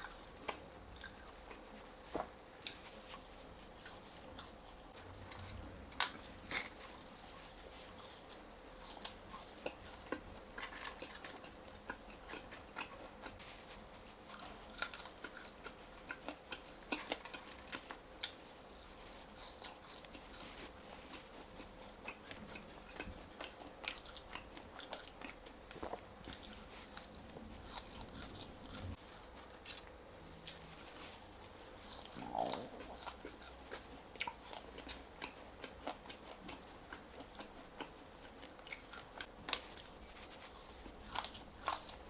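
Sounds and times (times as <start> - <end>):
person chewing crisp fries: 0.0 - 5.4, 6.0 - 42.0.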